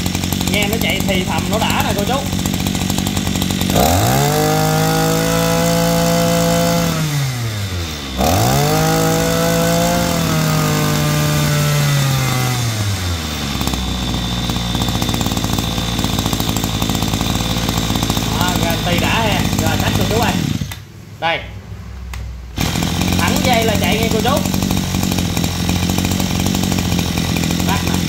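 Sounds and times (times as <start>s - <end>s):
brush cutter engine revving: 0.0s - 20.9s, 22.1s - 28.0s.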